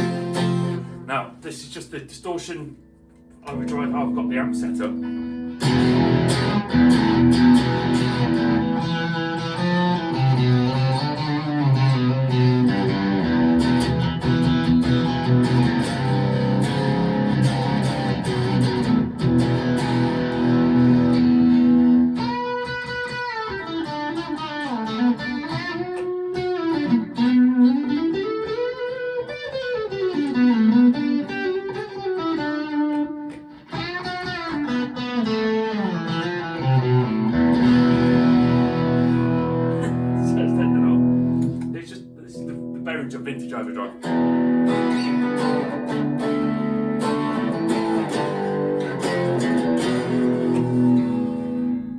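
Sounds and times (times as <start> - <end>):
distorted electric guitar: 0.0 - 51.9.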